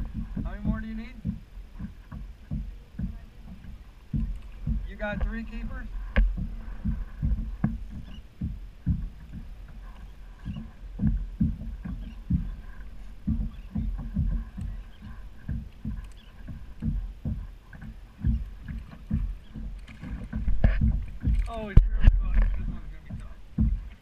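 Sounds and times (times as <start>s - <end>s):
water slapping kayak hull: 0.0s - 24.0s.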